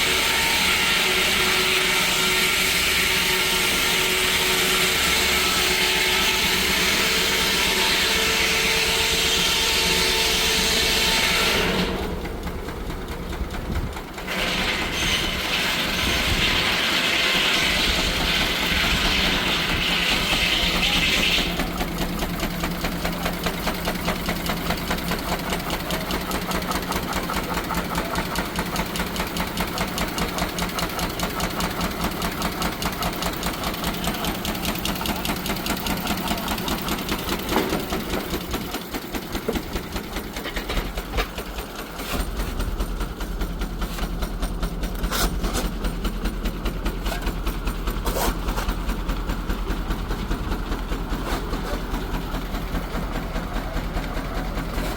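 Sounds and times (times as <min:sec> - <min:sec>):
steam traction engine running: 0:00.0 - 0:54.9.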